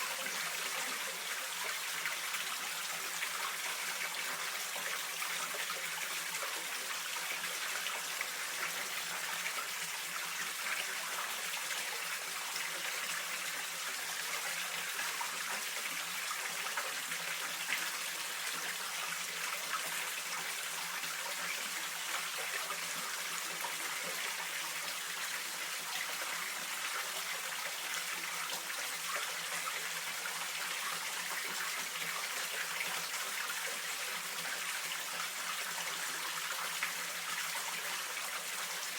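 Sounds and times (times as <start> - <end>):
stream water flowing and splashing: 0.0 - 38.9.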